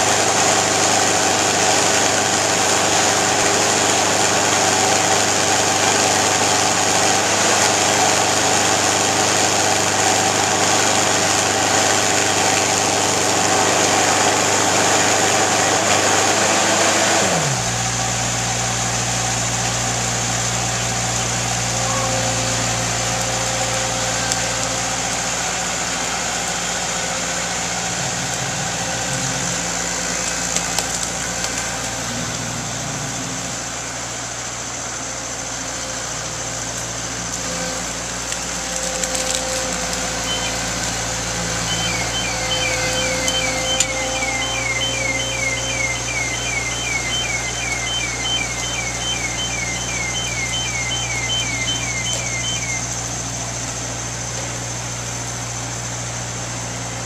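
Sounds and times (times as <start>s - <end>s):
boom lift engine running: 0.0s - 57.0s.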